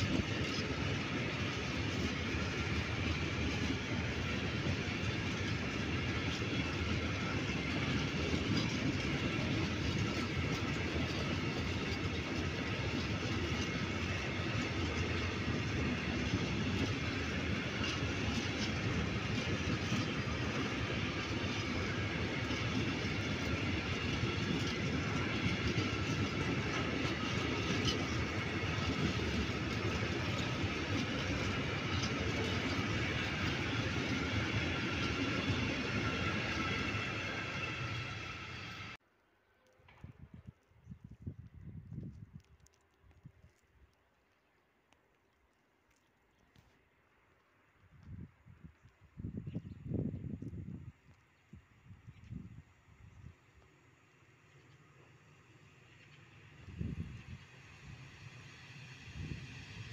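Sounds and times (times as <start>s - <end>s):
train wheels rumbling on rails: 0.0s - 39.0s, 47.5s - 59.9s.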